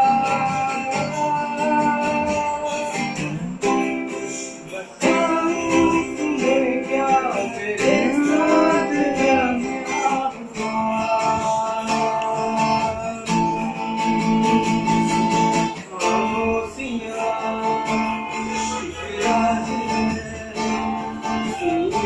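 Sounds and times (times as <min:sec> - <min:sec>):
man singing slow song: 0:00.0 - 0:14.9, 0:15.5 - 0:22.0
strummed acoustic guitar: 0:00.0 - 0:22.0.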